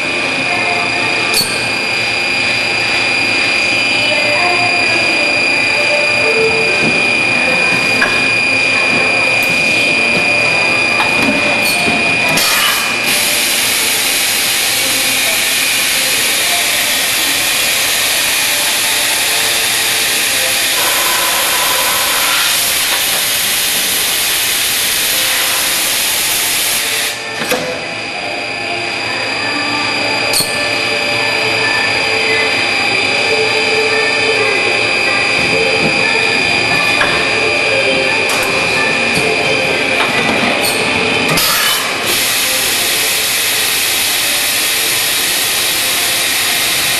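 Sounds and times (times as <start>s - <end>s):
machinery high whine: 0.0s - 46.9s.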